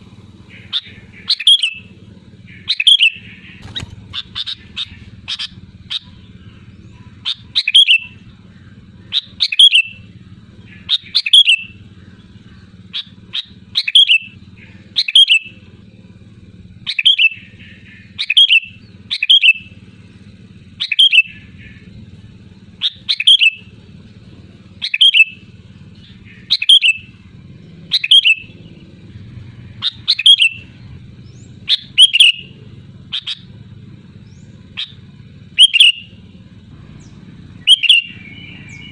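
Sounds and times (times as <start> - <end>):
bulbul chirping: 0.0 - 15.8, 16.7 - 38.9.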